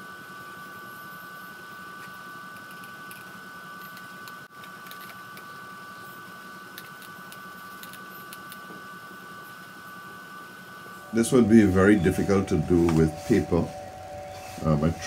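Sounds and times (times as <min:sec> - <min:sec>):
high two-note equipment whine: 0:00.0 - 0:15.0
room hum: 0:00.0 - 0:15.0.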